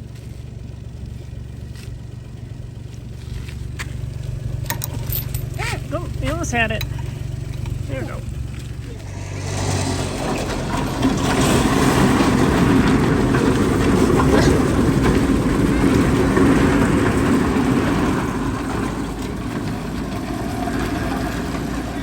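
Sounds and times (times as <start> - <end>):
vehicle engine running under load: 0.0 - 22.0
coop dragging over ground: 3.2 - 22.0.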